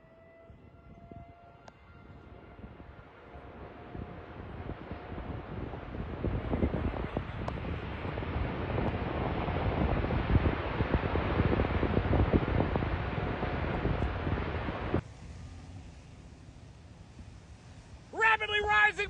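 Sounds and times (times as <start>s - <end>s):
wind buffeting microphone: 0.0s - 18.2s.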